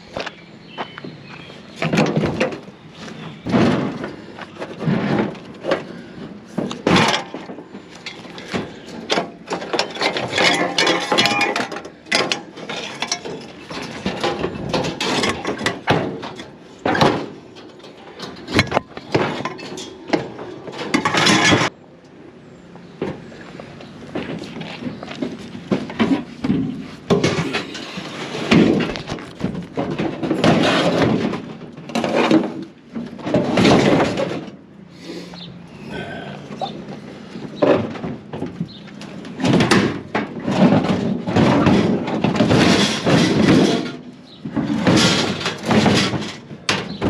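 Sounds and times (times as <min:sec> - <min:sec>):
metal scrap clanking and scraping: 0:01.7 - 0:21.8, 0:24.1 - 0:34.6, 0:35.4 - 0:47.0.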